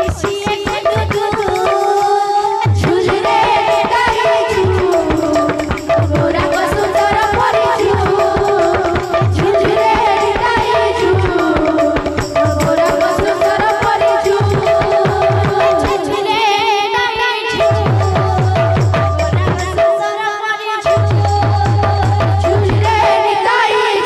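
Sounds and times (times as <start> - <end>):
barrel drum pattern: 0.0 - 24.0
woman singing devotional melody: 0.0 - 24.0.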